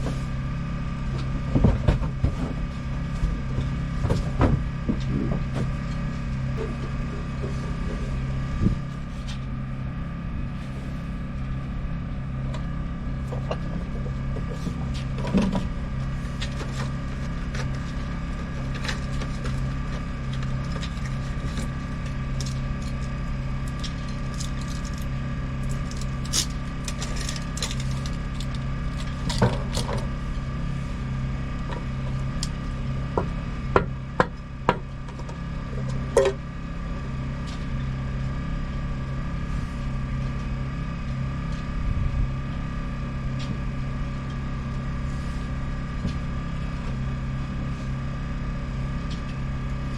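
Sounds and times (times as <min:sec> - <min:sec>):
motor humming: 0:00.0 - 0:49.9.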